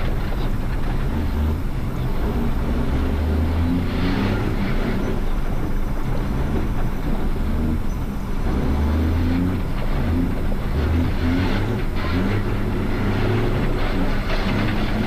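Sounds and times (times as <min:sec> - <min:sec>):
constant rattle: 0:00.0 - 0:15.0
road noise on rocky ground: 0:00.0 - 0:15.0
truck diesel engine revving: 0:00.0 - 0:15.0.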